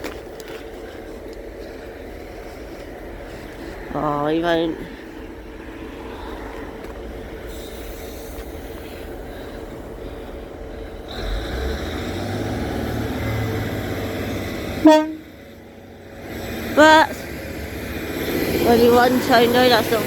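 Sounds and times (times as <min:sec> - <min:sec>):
diesel train engine rumbling: 0:00.0 - 0:20.0
loud low engine drone: 0:00.4 - 0:20.0.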